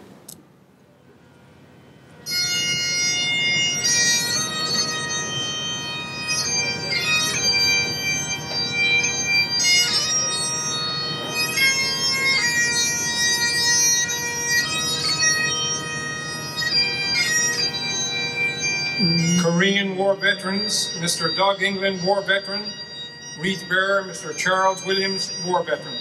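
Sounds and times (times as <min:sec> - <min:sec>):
bagpipes playing a tune: 0:01.5 - 0:26.0.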